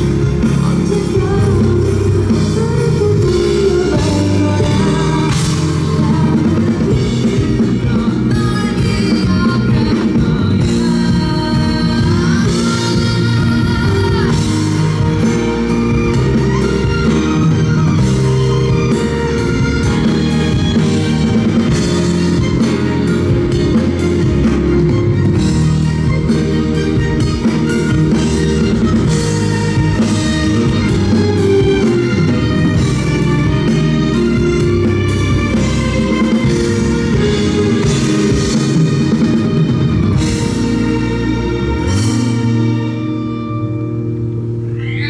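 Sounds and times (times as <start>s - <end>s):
live pop-rock band: 0.0s - 45.0s.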